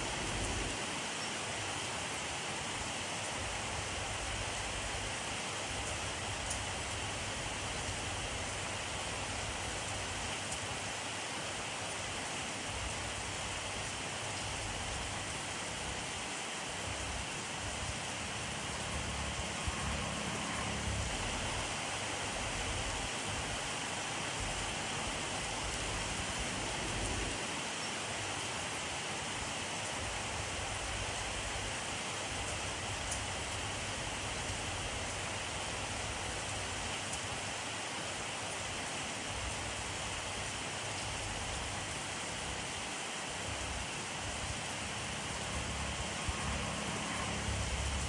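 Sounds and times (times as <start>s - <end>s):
rainfall: 0.0s - 48.0s.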